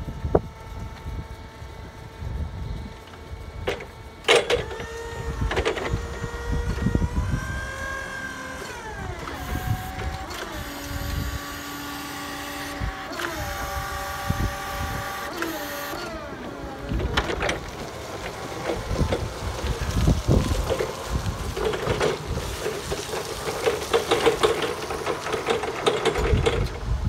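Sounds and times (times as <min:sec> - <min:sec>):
electric forklift motors whining: 0:00.0 - 0:27.0.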